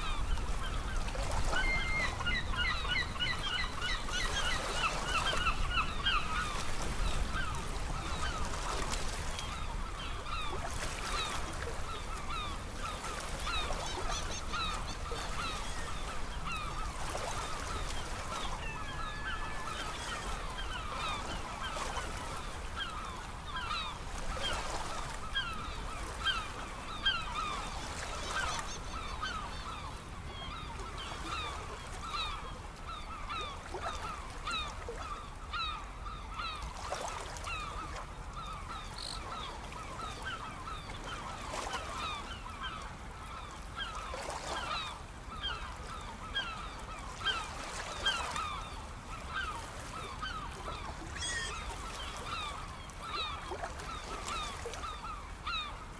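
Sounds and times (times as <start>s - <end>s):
sea surf: 0.0s - 55.9s.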